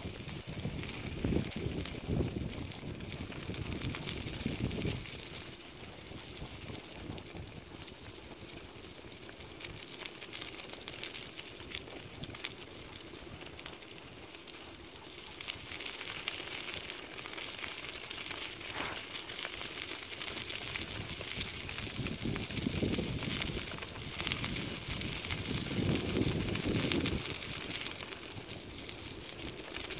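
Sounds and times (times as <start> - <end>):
wheels rolling over gravel and leaves: 0.0 - 29.9.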